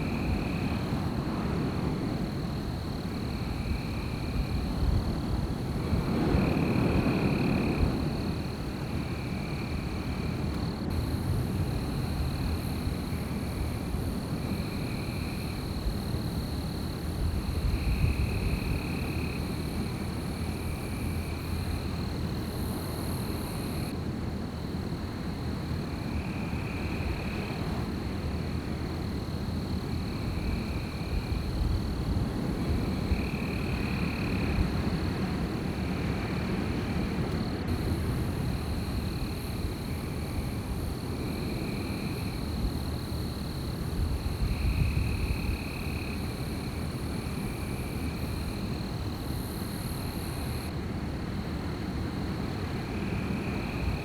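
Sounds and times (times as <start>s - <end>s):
wind blowing: 0.0s - 23.9s, 26.3s - 51.6s.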